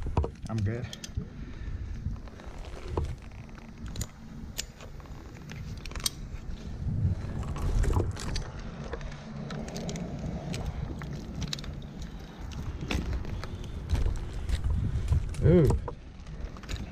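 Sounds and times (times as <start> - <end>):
climbing gear clicking: 0.0 - 16.9
low rumble: 1.2 - 16.9.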